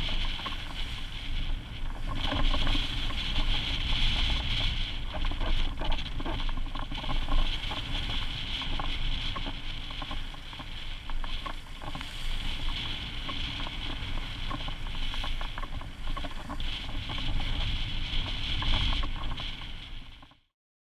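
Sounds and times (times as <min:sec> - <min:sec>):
wind buffeting microphone: 0:00.0 - 0:20.4.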